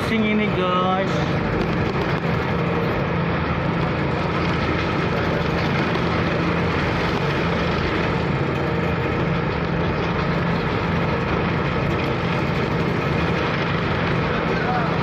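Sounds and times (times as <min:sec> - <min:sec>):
ferry engine humming: 0:00.0 - 0:15.0.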